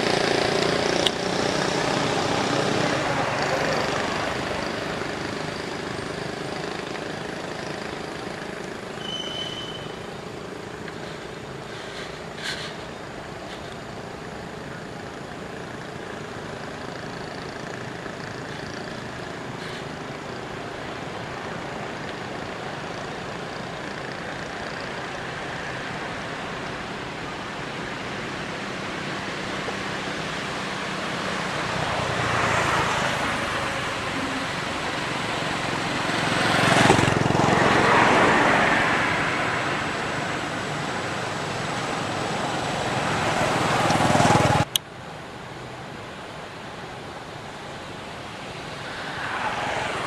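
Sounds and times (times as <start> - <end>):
road vehicles passing: 0.0 - 50.0.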